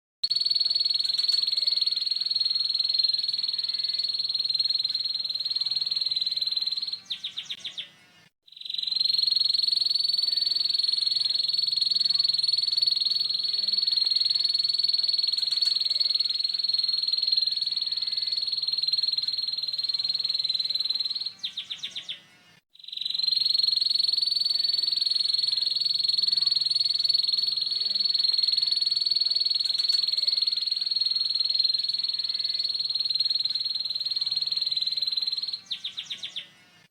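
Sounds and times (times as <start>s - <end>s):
canary singing trill: 0.2s - 36.8s.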